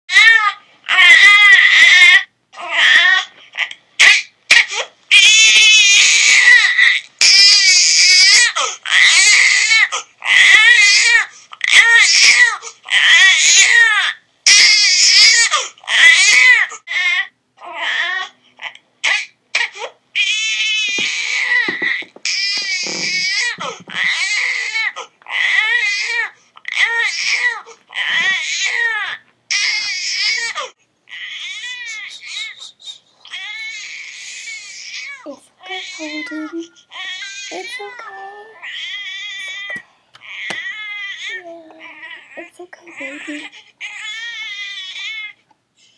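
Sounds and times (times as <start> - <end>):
infant crying: 0.1 - 45.4.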